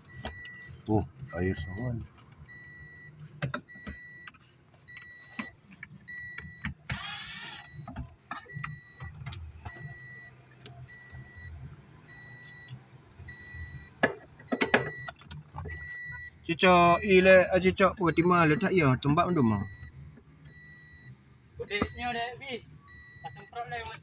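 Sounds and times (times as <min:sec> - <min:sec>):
car warning chime beeping: 0:00.0 - 0:24.0.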